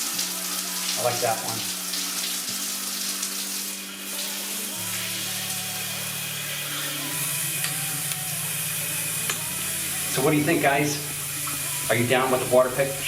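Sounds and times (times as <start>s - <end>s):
shower head spraying water: 0.0s - 13.0s.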